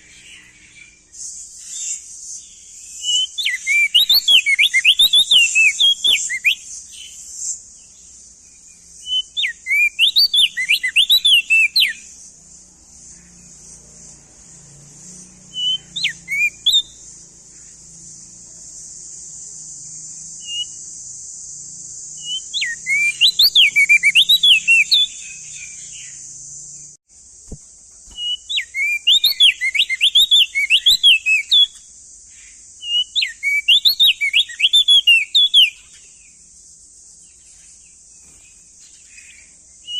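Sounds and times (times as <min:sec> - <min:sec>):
bird whistled song: 0:00.0 - 0:12.3, 0:14.8 - 0:26.9, 0:27.5 - 0:36.5, 0:37.3 - 0:39.9
steady high hiss: 0:00.0 - 0:39.9.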